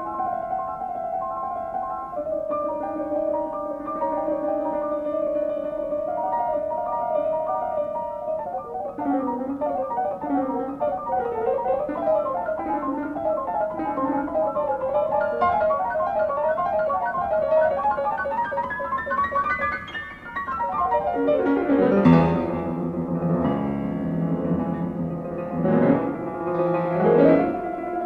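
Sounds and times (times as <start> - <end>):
piano background music: 0.0 - 28.0.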